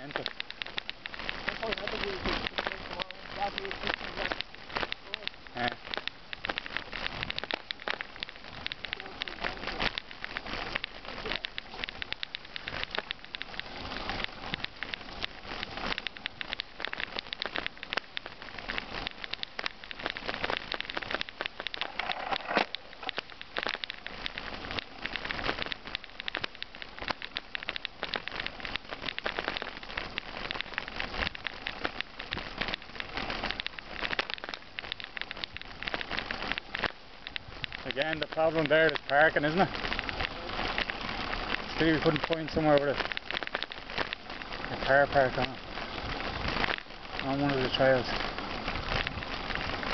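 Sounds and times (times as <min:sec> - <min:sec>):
bike rattling: 0:00.0 - 0:49.9
bike tyres crunching on gravel: 0:00.0 - 0:49.9.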